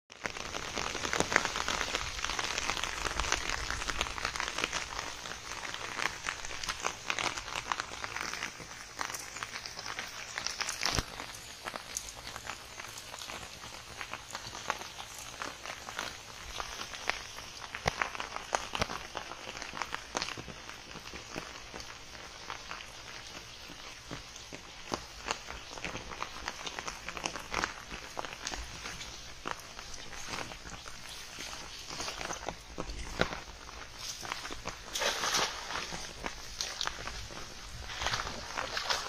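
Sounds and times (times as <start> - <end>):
rain falling: 0.1 - 39.0
footsteps on wet ground: 0.5 - 39.0.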